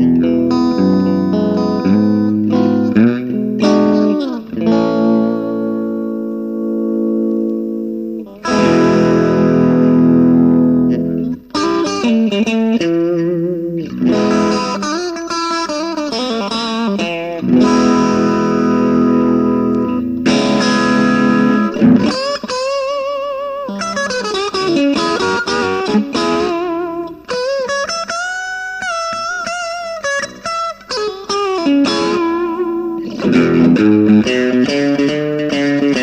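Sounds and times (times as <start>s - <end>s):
overdriven electric guitar: 0.0s - 36.0s.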